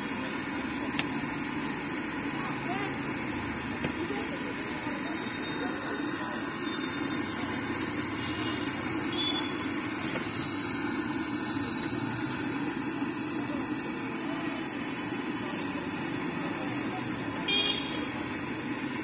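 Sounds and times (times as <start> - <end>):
continuous street hiss: 0.0 - 19.0
traffic: 0.8 - 19.0.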